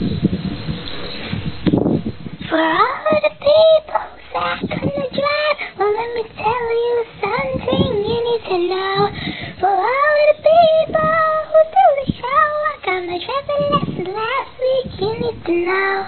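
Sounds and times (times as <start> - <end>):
child singing: 2.4 - 16.0.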